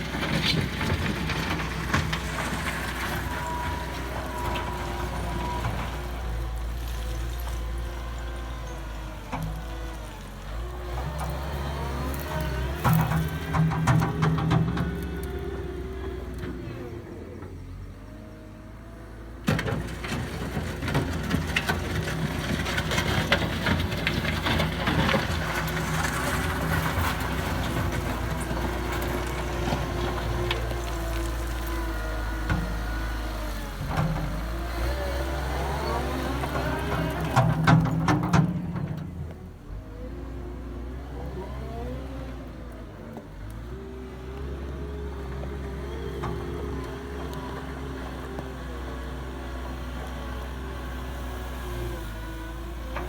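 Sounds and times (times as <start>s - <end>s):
wheel loader running: 0.0s - 53.0s.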